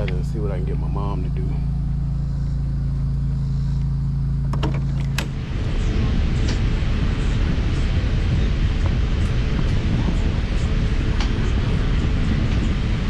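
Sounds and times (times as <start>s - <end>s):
low machine hum: 0.0s - 13.0s
rough machine rumble: 0.0s - 13.0s.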